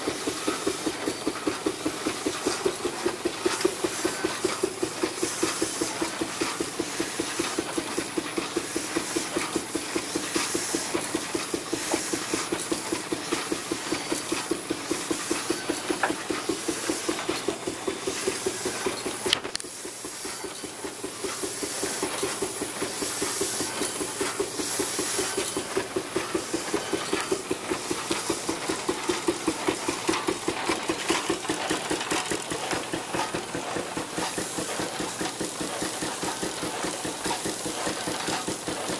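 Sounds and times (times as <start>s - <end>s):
steam engine exhaust beating: 0.0s - 38.9s
steam hissing: 0.0s - 38.9s.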